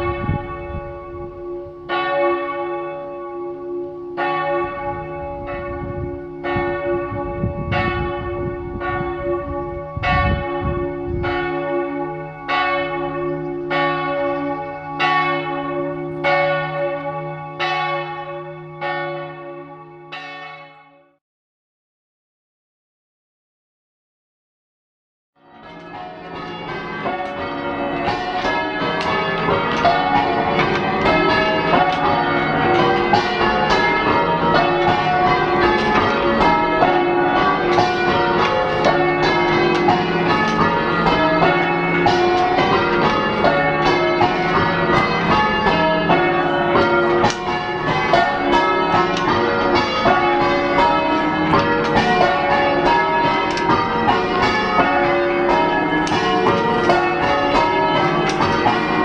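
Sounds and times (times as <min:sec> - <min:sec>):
church bells change ringing: 0:00.0 - 0:21.2, 0:25.4 - 0:59.0.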